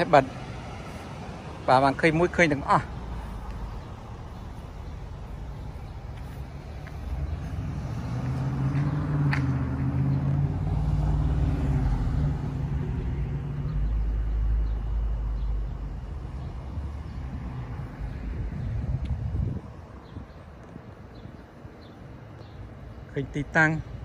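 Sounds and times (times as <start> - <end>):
car engine passing by: 0.0 - 19.8.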